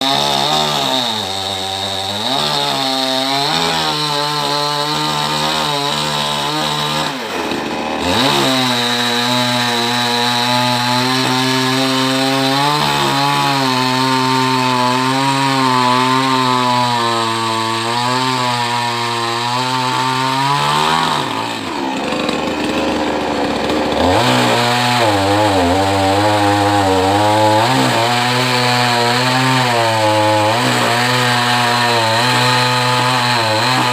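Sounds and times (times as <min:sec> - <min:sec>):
chainsaw cutting into trunk: 0:00.0 - 0:33.9.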